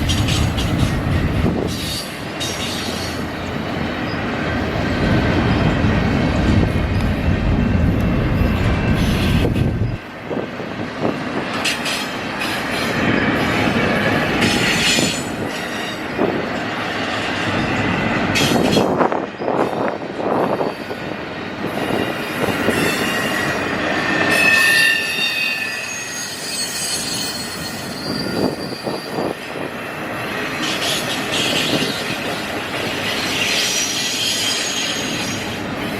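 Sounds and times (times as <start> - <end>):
wheels squealing on rail: 0.0 - 4.3, 8.3 - 10.4, 11.6 - 16.4, 17.3 - 35.9
railroad cars rolling on track: 0.0 - 35.9.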